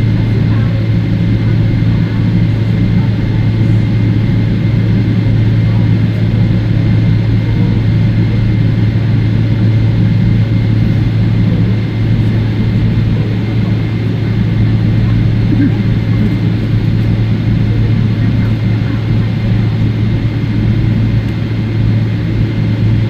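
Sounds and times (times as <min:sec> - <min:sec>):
airplane cabin drone: 0:00.0 - 0:23.0
faint high engine whine: 0:00.0 - 0:23.0.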